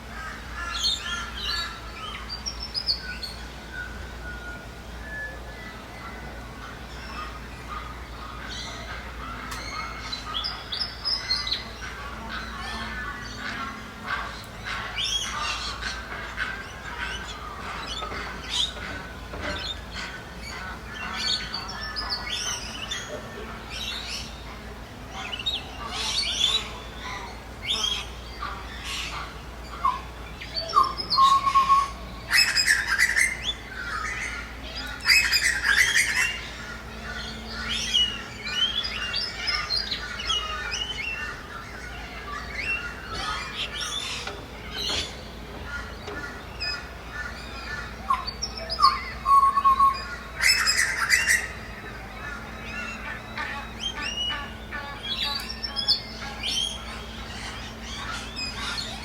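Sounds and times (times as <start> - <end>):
loud noisy bird calls: 0.0 - 59.0
birds chirping and whistling: 0.2 - 59.0.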